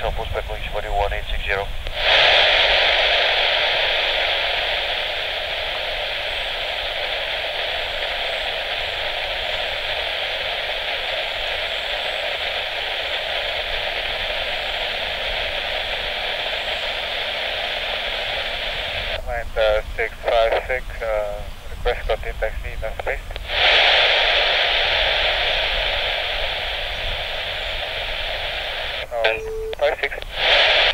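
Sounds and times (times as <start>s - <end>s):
radio static hiss: 0.0s - 30.9s.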